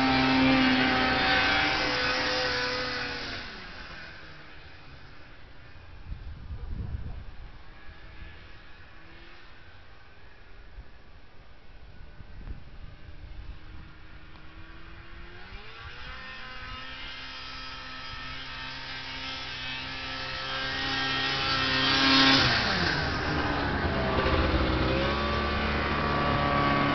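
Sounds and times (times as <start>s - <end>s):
snowmobile engine passing: 0.0s - 10.6s, 11.6s - 26.9s.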